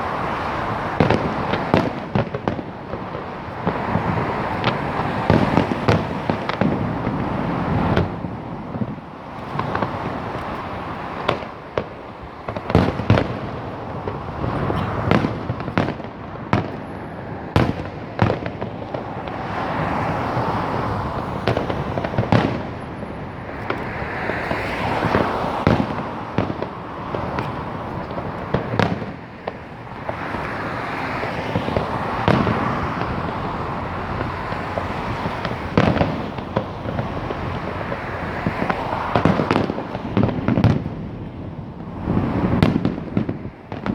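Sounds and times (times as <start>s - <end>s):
continuous noisy background: 0.0s - 43.9s
fireworks bangs: 0.0s - 43.9s.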